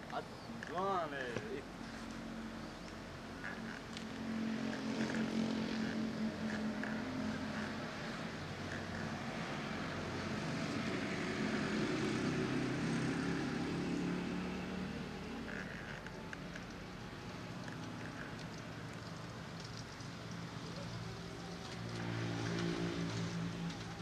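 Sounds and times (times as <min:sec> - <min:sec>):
engine drone: 0:00.0 - 0:24.0.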